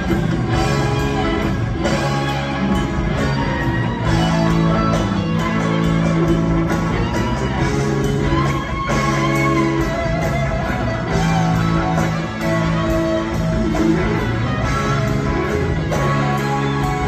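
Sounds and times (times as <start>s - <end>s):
bass guitar: 0.0s - 17.0s
drums with cymbal beat: 0.0s - 17.0s
electric guitar lead: 0.0s - 17.0s.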